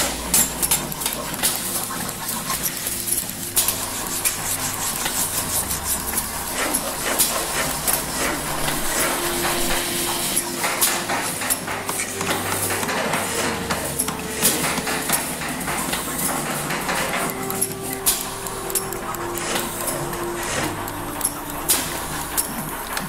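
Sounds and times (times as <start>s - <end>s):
hand tools tapping and clicking: 0.0s - 23.0s
low steady hum: 0.0s - 23.0s.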